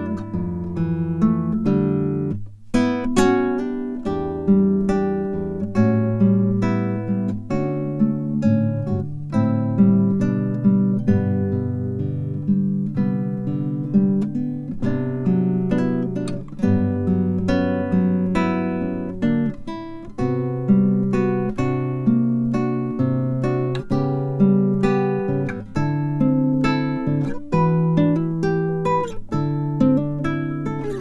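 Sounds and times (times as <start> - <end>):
acoustic guitar plucked and strummed: 0.0 - 31.0.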